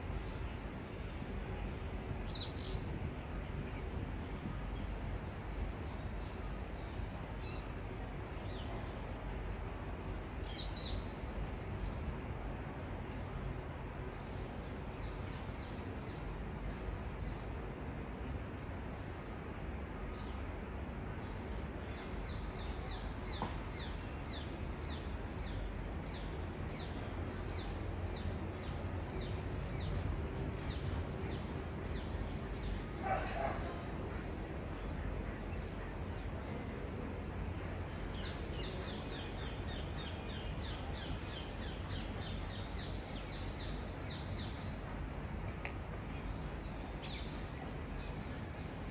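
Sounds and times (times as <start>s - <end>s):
distant city traffic rumble: 0.0s - 48.9s.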